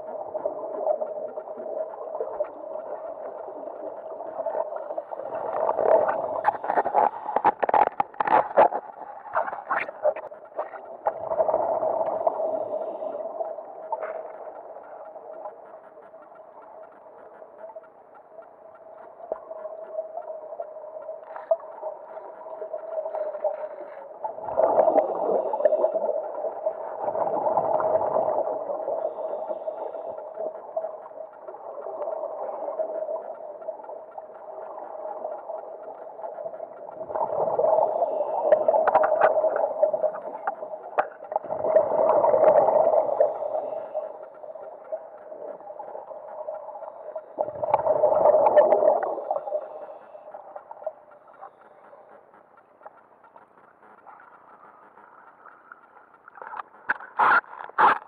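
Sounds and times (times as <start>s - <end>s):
underwater bubbling: 0.0s - 58.0s.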